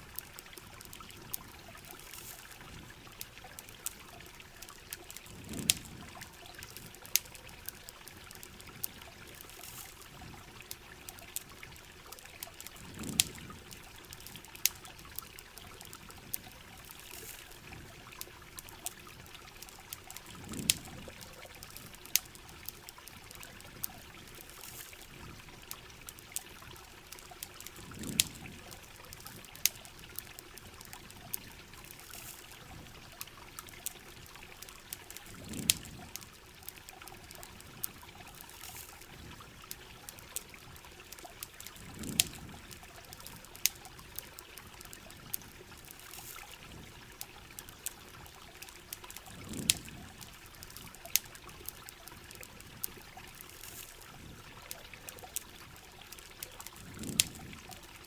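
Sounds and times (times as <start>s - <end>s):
campfire crackles and pops: 0.0s - 58.0s
low gush of water: 0.0s - 58.0s.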